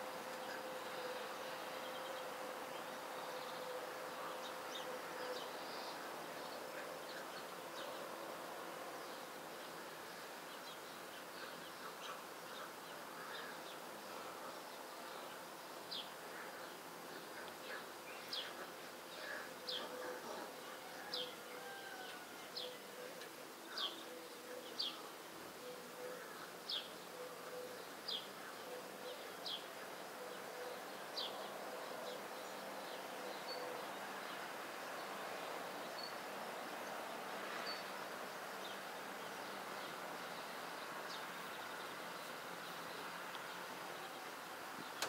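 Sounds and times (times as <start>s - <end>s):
faint steady hum: 0.0s - 45.0s
bird chirping: 0.2s - 8.2s, 9.0s - 45.0s.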